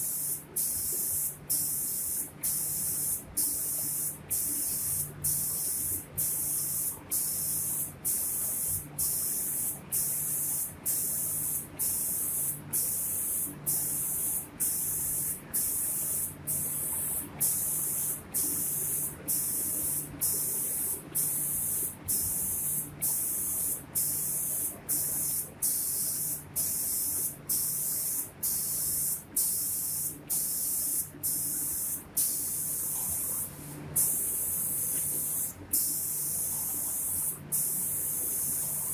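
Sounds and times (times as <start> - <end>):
spray guns hissing in bursts: 0.0 - 38.9.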